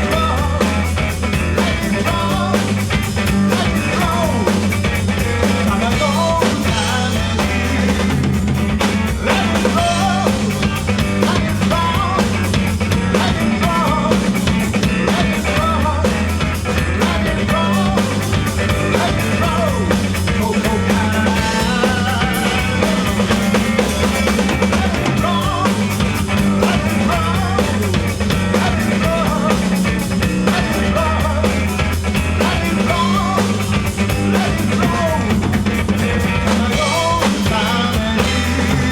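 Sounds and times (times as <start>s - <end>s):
person singing: 0.0s - 2.8s, 3.4s - 4.7s, 5.5s - 8.1s, 9.1s - 14.4s, 15.0s - 29.8s, 30.4s - 31.8s, 32.4s - 35.6s, 36.3s - 38.9s
drum kit: 0.0s - 38.9s
electric guitar: 0.0s - 38.9s.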